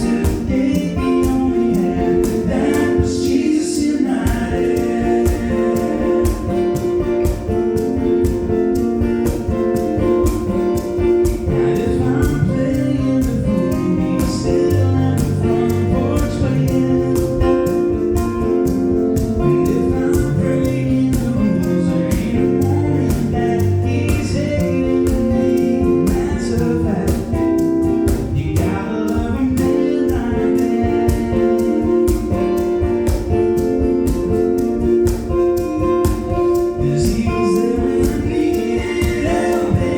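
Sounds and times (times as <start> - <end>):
gospel song with band: 0.0 - 39.9.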